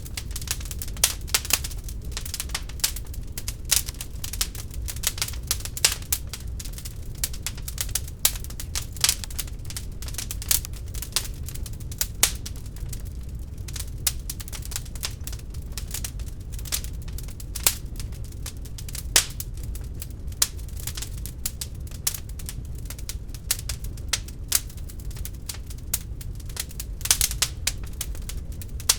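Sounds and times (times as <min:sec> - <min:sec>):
low steady rumble: 0:00.0 - 0:28.9
wood fire crackling and popping: 0:00.0 - 0:28.9.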